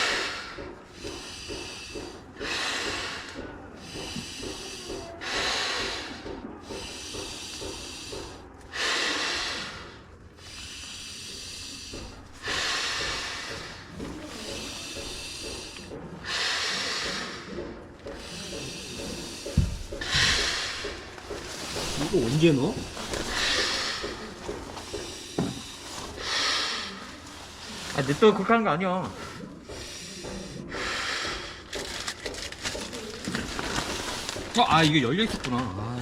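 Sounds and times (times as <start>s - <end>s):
quick breath in: 0.0s - 22.0s, 22.8s - 28.0s, 29.2s - 31.9s.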